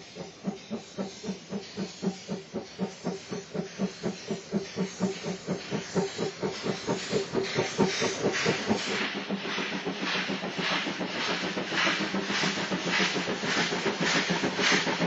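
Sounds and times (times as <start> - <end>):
steam hissing: 0.0 - 15.0
steam locomotive exhaust beats: 0.0 - 15.0.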